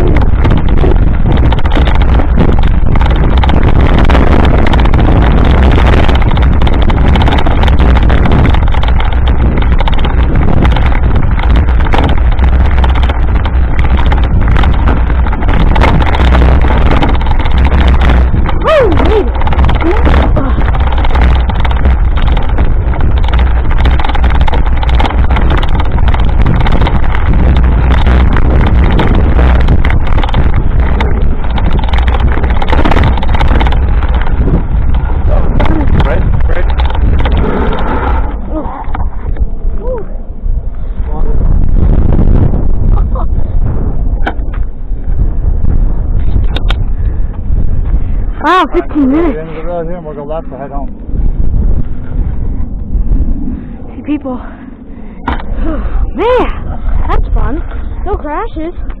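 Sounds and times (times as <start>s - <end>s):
bike clatter and rattle: 0.0s - 59.0s
wind rushing on microphone: 0.0s - 59.0s.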